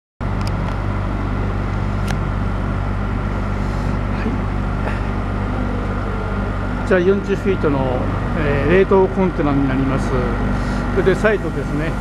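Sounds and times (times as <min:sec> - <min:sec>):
refrigeration unit humming: 0:00.2 - 0:12.0.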